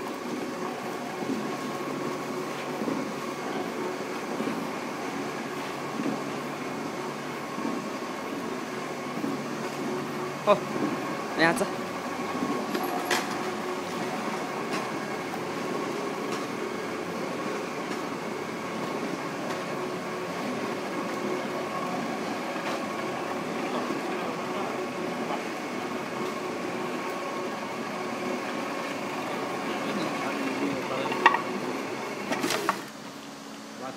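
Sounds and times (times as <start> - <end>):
screw conveyor mechanical drone: 0.0 - 33.9.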